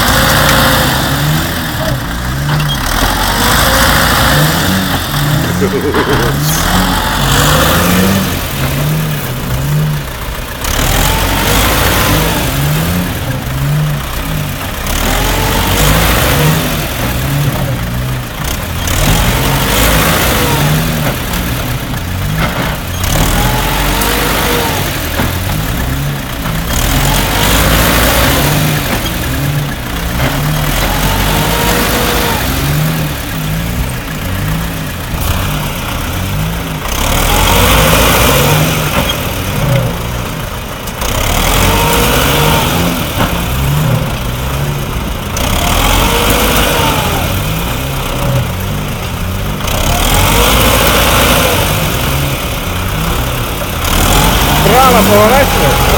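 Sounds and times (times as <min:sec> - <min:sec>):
vehicle engines revving under load: 0:00.0 - 0:55.9.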